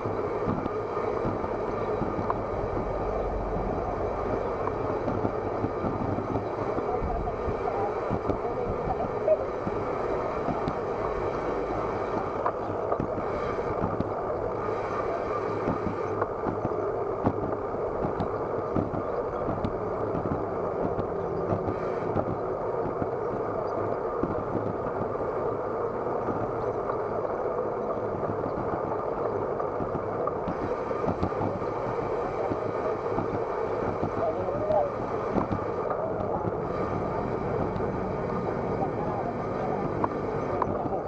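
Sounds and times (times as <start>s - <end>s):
wind and road noise from bicycle: 0.0s - 41.0s.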